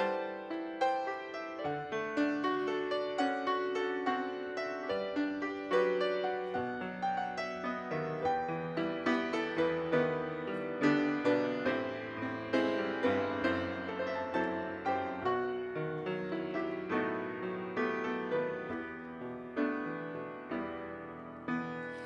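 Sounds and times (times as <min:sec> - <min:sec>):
solo grand piano: 0:00.0 - 0:22.0.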